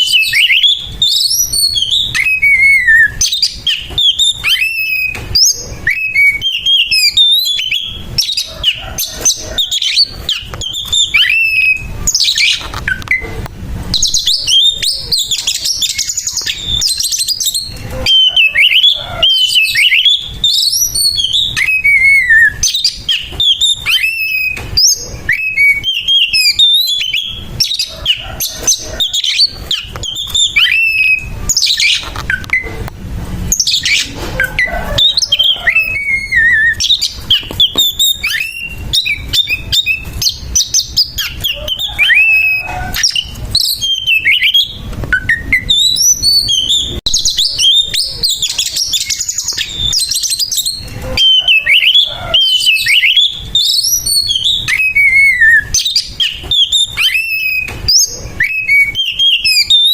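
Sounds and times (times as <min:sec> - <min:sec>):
bird singing whistles and chirps: 0:00.0 - 0:32.8, 0:33.5 - 0:59.9
harsh scratchy bird calls: 0:00.0 - 0:59.9.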